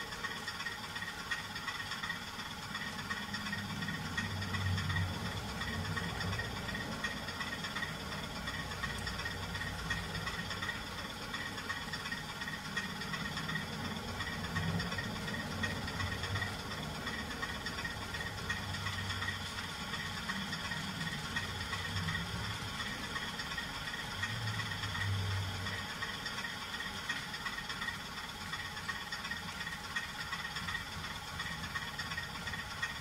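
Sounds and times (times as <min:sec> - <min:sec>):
faint repeating ticking: 0:00.0 - 0:33.0
model train whirring and rattling: 0:00.0 - 0:33.0.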